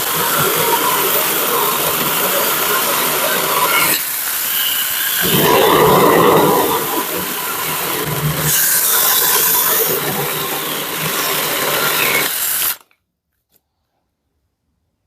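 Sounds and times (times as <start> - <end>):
mini chainsaw cutting wood: 0.0 - 13.0.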